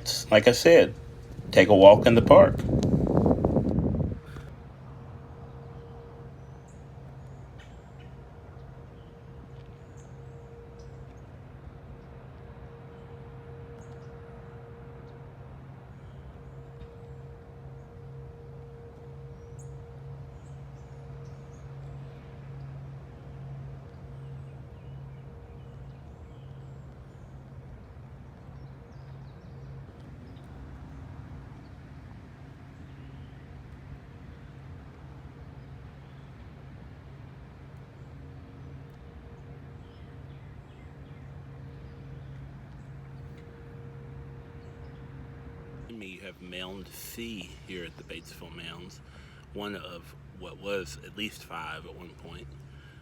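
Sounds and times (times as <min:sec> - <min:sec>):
birds chirping: 0:00.0 - 0:03.4, 0:05.3 - 0:36.6, 0:37.5 - 0:53.0
machine hum: 0:00.0 - 0:53.0.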